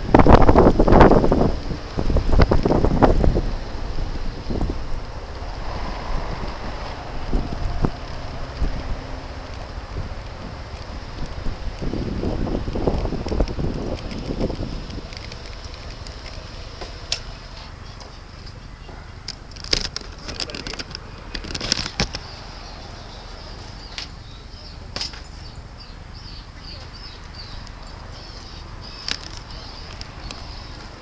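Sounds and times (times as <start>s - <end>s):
handling clicks and rustles: 0.0s - 22.4s, 26.8s - 31.0s
scooter engine idling: 0.0s - 31.0s.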